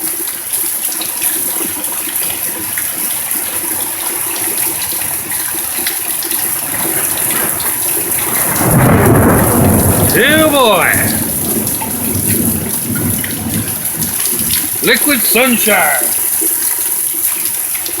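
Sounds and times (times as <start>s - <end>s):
heavy rain: 0.0s - 18.0s
raindrops ticking: 0.1s - 18.0s.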